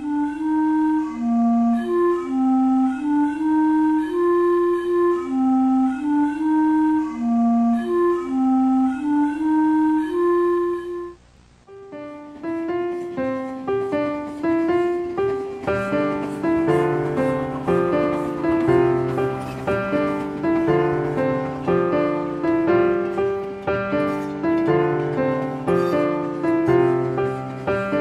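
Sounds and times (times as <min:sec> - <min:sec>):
piano tune: 0:00.0 - 0:28.0
slow woodwind melody: 0:00.0 - 0:28.0.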